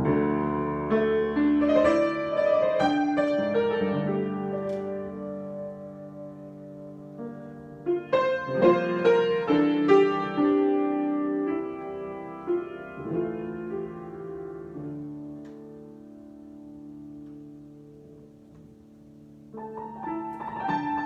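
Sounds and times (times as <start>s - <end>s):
solo piano improvisation: 0.0s - 21.0s.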